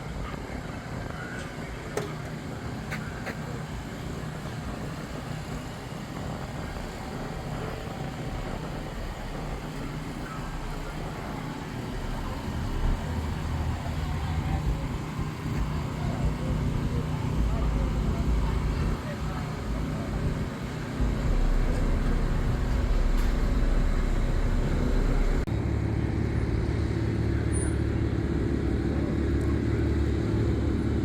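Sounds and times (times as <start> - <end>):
car engines rumbling: 0.0 - 31.0.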